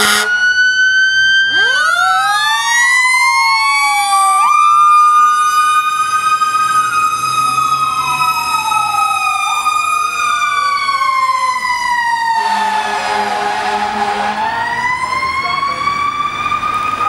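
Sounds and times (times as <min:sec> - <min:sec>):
fire engine sirens wailing: 0:00.0 - 0:17.0.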